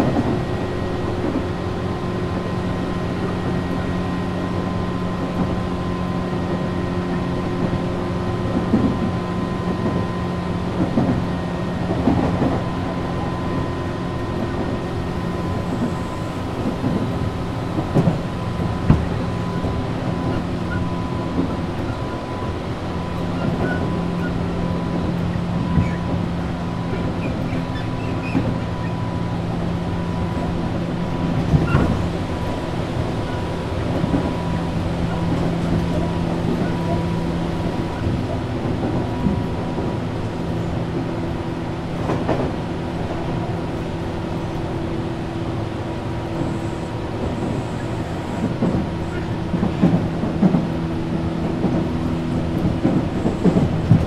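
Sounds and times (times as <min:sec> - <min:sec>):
train rumble with hum and whine: 0:00.0 - 0:54.0.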